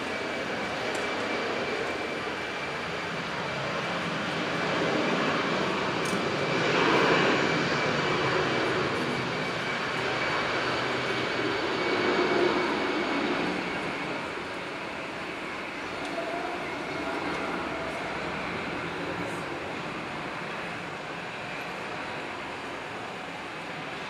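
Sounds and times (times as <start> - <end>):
jet engine hiss and whine: 0.0 - 24.0.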